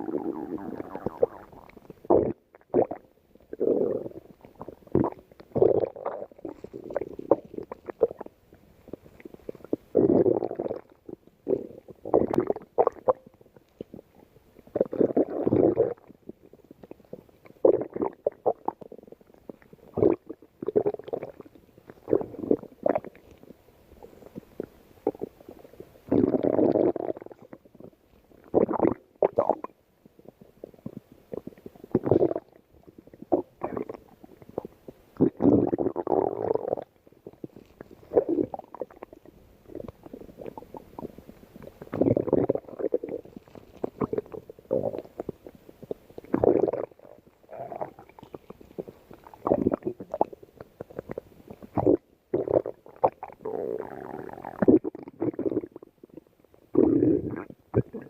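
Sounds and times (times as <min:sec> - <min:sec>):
stomach growling: 0:00.0 - 0:58.0.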